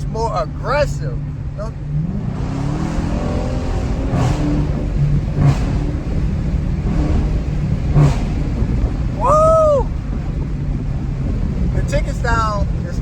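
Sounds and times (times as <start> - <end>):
car engine revving: 0.0 - 13.0
engine ticking: 0.0 - 13.0.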